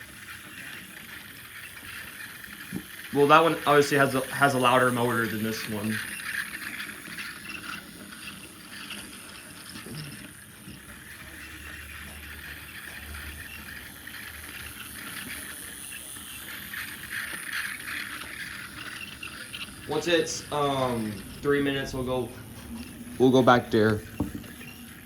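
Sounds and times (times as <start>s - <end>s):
small electric motors whirring: 0.0s - 25.0s
wheels rattling on rails: 0.0s - 25.0s.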